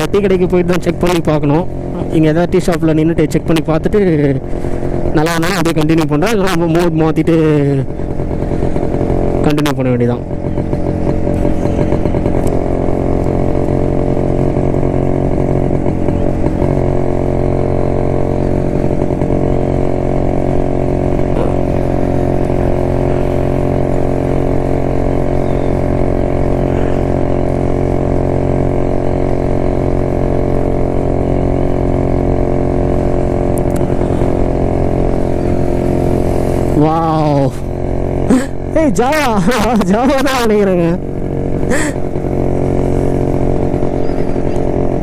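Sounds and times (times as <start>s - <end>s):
two-stroke motorcycle engine running: 0.0s - 45.0s.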